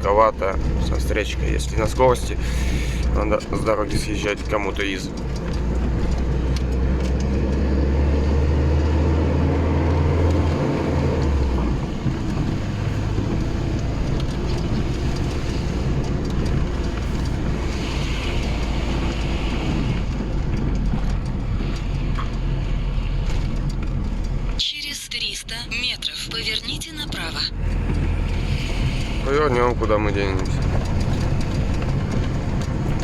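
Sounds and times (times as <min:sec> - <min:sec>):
road noise: 0:00.0 - 0:33.0
van engine drone: 0:00.0 - 0:33.0.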